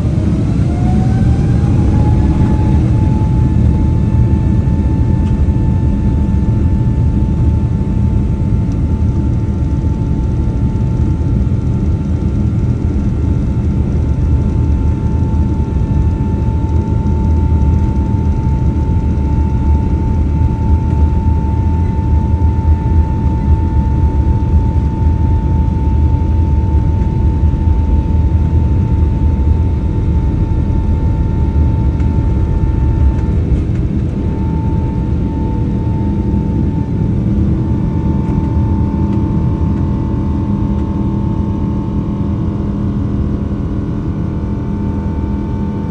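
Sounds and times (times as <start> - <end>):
airliner engine and airflow rumble: 0.0 - 45.9.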